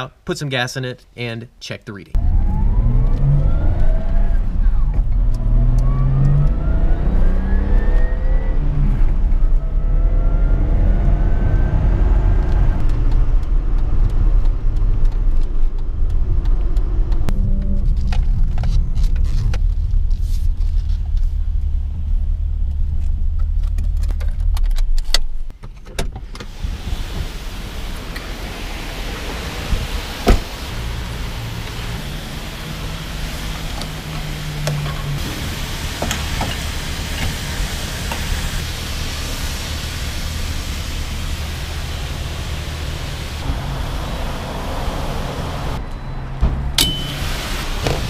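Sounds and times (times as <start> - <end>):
car engine accelerating: 2.2 - 24.9, 26.5 - 48.0.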